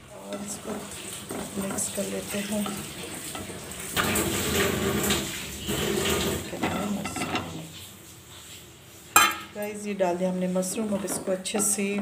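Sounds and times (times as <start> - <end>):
spatula scraping and stirring in pan: 0.0 - 12.0.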